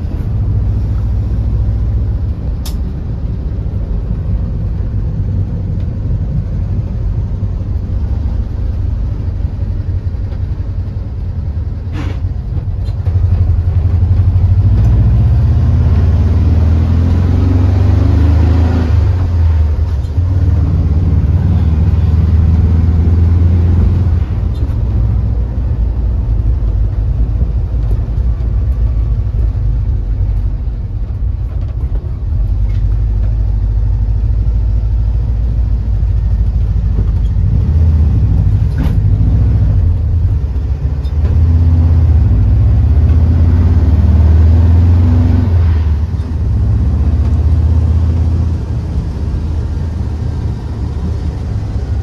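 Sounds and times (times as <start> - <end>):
engine drone inside vehicle: 0.0 - 52.0
road noise: 0.0 - 52.0.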